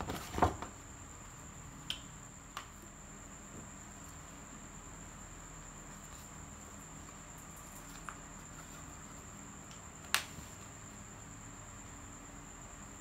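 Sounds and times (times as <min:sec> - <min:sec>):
steady high-pitched whine: 0:00.0 - 0:13.0.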